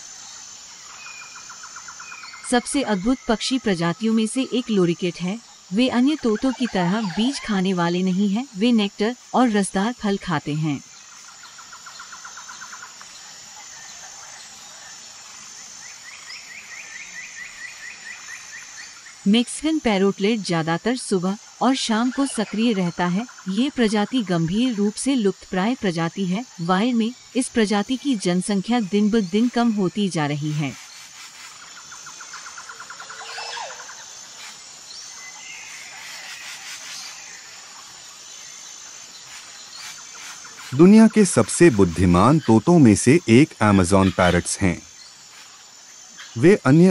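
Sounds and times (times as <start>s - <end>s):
high-pitched background hiss: 0.0s - 46.9s
insect hum: 0.0s - 46.9s.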